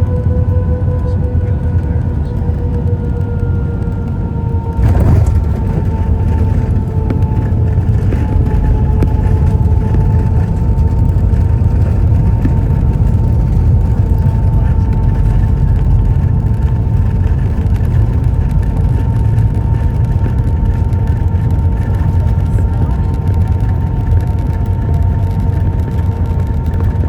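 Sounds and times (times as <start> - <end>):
jet engine cabin rumble: 0.0 - 27.0
thin steady whine: 0.0 - 27.0.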